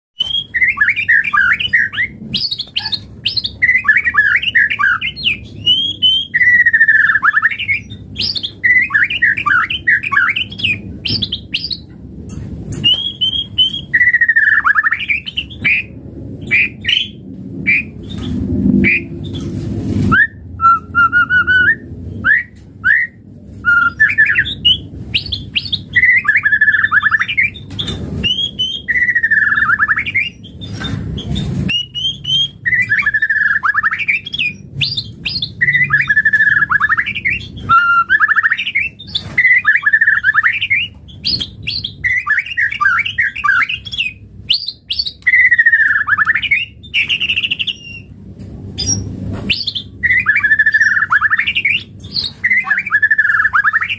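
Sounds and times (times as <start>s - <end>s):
bird singing varied song: 0.2s - 11.9s, 12.7s - 19.5s, 20.2s - 48.1s, 48.8s - 53.9s.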